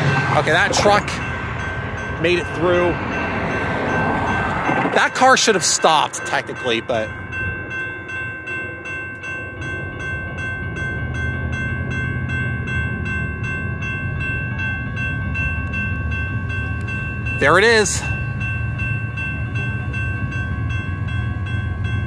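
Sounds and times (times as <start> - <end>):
crossing warning bell dinging: 0.0 - 22.0
diesel freight train rumbling: 0.0 - 22.0.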